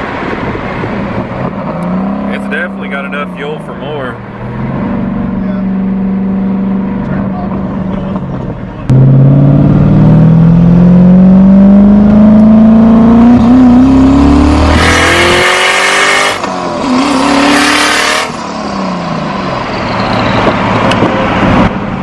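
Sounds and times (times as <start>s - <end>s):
car engine revving at full throttle: 0.0s - 22.0s.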